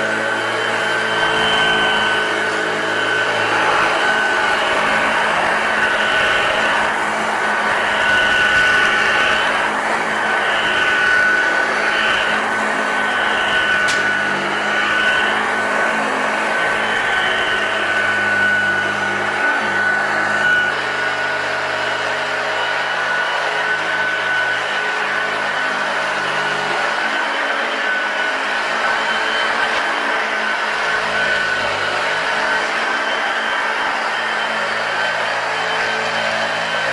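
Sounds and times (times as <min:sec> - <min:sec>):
upright vacuum cleaner running: 0:00.0 - 0:36.9.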